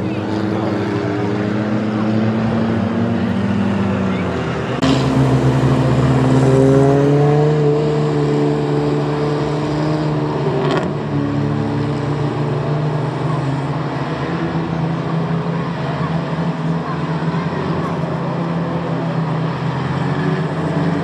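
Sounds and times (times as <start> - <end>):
race truck engines accelerating: 0.0 - 21.0.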